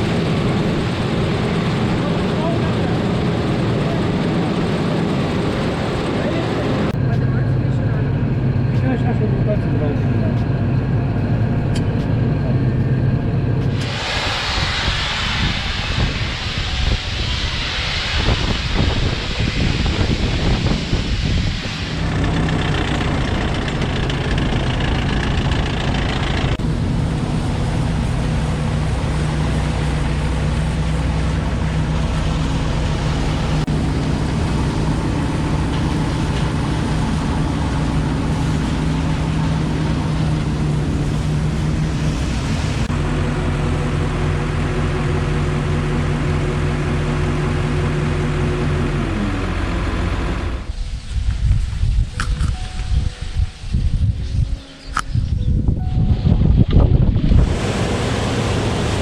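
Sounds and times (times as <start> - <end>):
diesel engine running: 0.0 - 51.0, 55.8 - 59.0.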